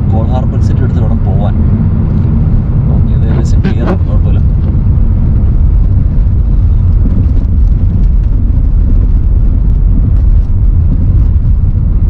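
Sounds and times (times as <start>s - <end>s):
car tyre and engine rumble: 0.0s - 12.0s.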